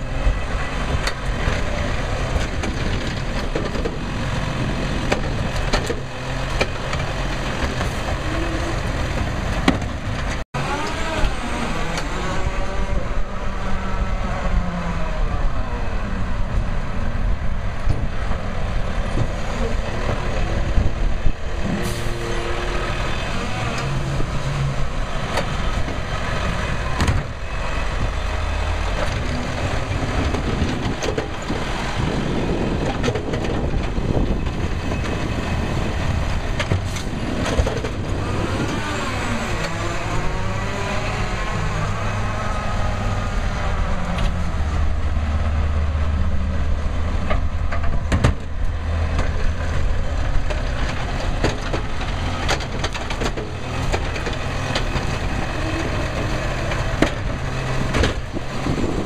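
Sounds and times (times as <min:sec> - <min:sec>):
diesel engine rumble: 0:00.0 - 0:59.0.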